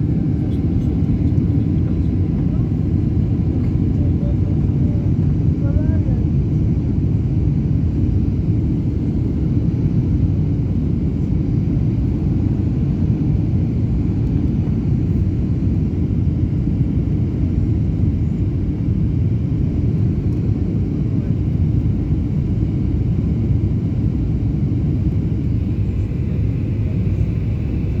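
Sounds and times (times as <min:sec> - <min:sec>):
aeroplane engines rumbling: 0:00.0 - 0:28.0.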